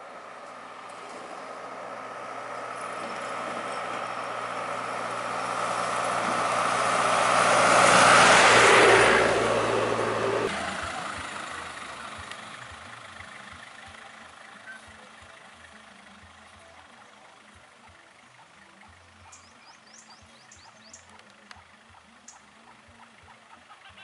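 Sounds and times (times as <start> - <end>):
truck passing by: 0.0 - 24.0.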